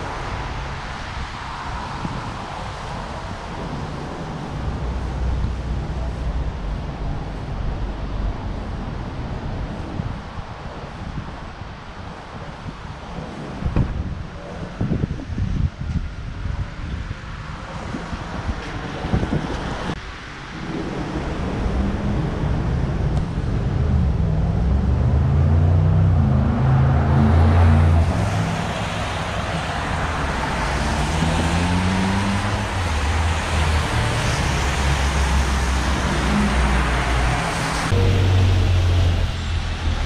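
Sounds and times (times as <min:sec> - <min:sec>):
tyres hissing on wet road: 0:00.0 - 0:13.8, 0:17.2 - 0:40.0
vehicle engines rumbling: 0:00.0 - 0:40.0.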